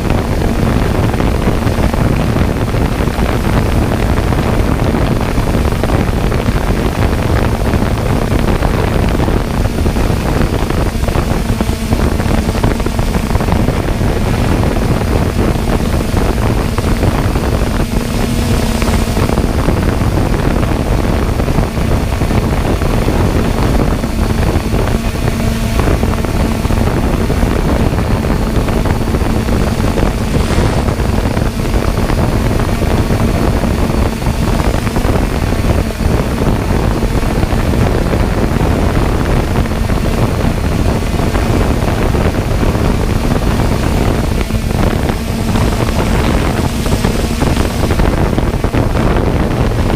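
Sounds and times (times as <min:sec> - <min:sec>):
low rumble: 0:00.0 - 0:49.9
rotor hum: 0:00.0 - 0:49.9
wind noise on microphone: 0:00.0 - 0:49.9.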